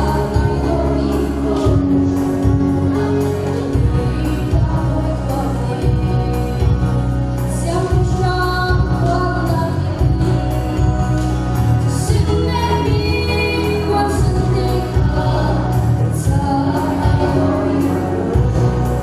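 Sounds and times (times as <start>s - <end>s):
backing music with bass line: 0.0s - 19.0s
girl singing gospel: 0.0s - 19.0s.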